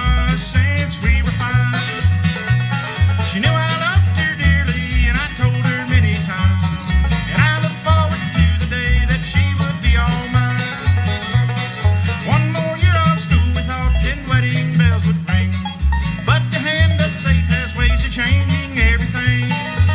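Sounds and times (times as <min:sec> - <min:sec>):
banjo picking: 0:00.0 - 0:19.9
bass steady beat: 0:00.0 - 0:19.9
guitar: 0:00.0 - 0:19.9.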